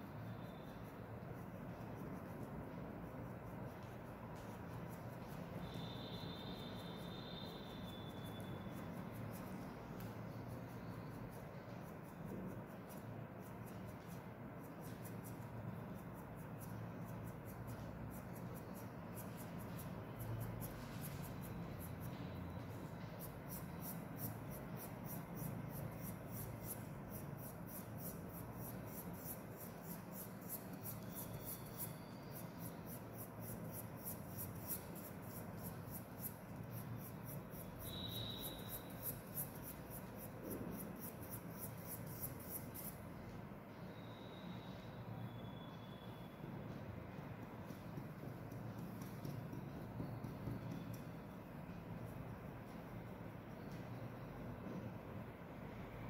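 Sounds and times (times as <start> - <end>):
marker pen scratching on paper: 0.0 - 43.5, 47.4 - 53.8.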